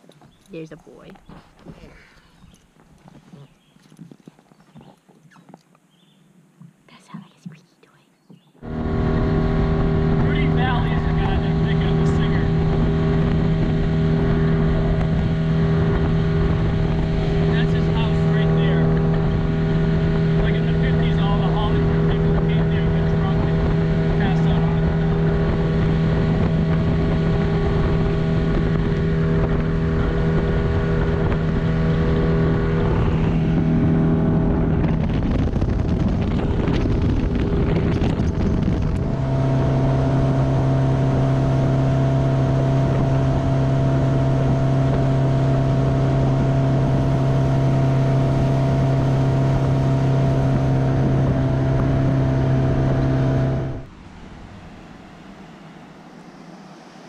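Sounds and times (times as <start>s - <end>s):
speedboat engine drone: 8.6s - 57.0s
wind on microphone: 8.6s - 57.0s.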